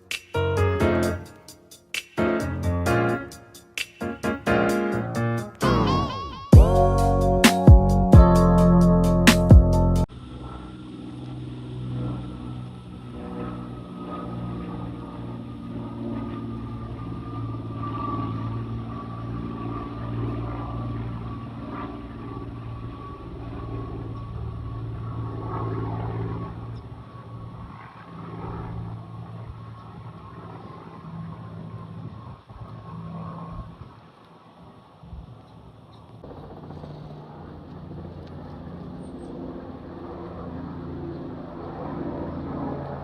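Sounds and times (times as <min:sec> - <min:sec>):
plane passing overhead: 0:00.0 - 0:43.0.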